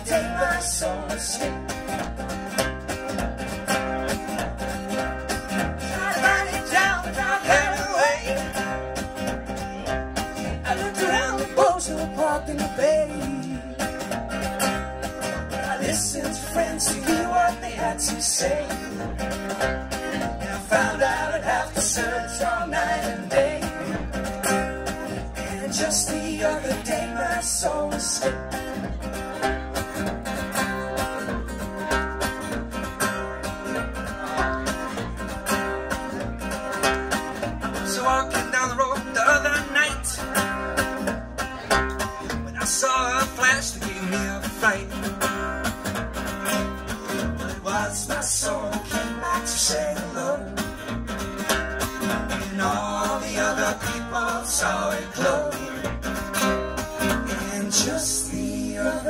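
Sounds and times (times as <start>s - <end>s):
strummed acoustic guitars: 0.0s - 59.0s.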